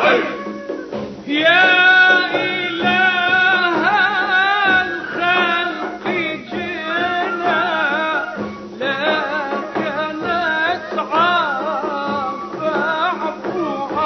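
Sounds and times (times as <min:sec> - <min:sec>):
man chanting: 0:01.3 - 0:14.0.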